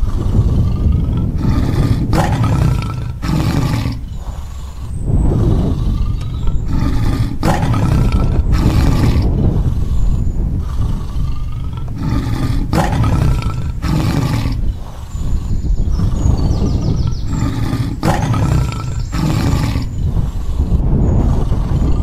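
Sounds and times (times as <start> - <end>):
tiger growling and roaring: 0.0 - 22.0.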